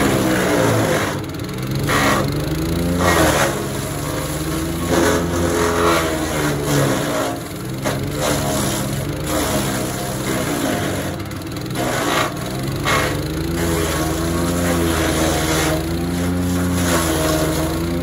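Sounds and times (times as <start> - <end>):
branches crunching and grinding: 0.0 - 18.0
wood chipper engine running: 0.0 - 18.0.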